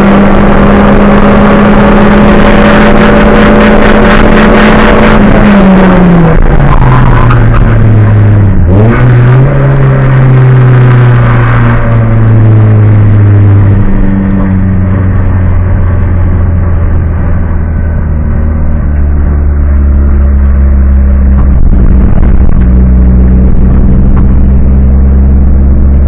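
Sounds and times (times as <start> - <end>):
car engine revving and droning: 0.0 - 26.0.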